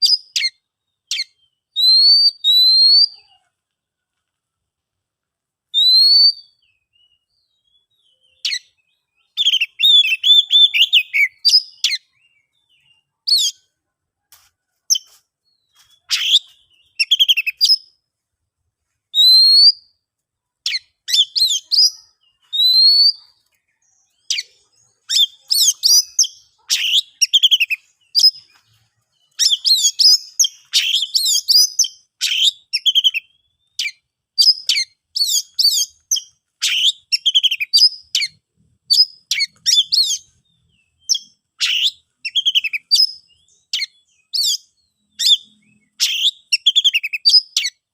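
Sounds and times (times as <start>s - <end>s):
songbird whistling and chattering: 0.0s - 3.3s, 5.8s - 13.6s, 15.7s - 17.9s, 19.1s - 19.9s, 20.6s - 47.8s.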